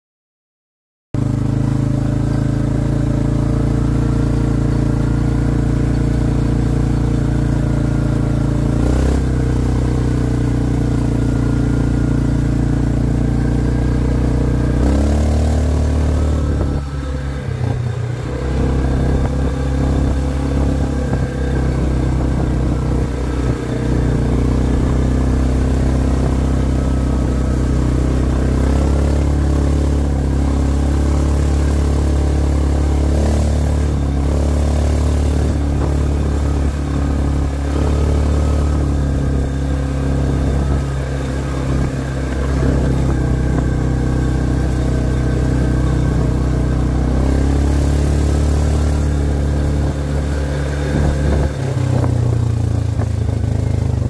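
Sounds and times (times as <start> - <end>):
quad bike engine: 1.2 - 54.0.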